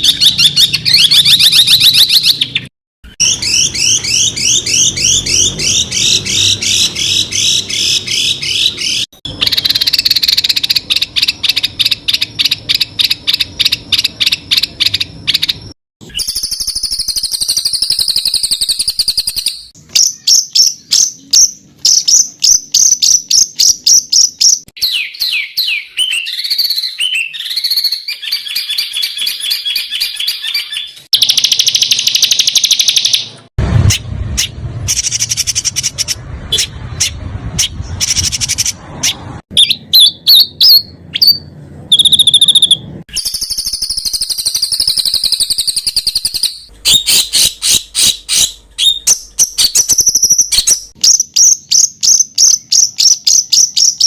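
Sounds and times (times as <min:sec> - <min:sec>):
songbirds singing sharp high notes: 0:00.0 - 0:54.0.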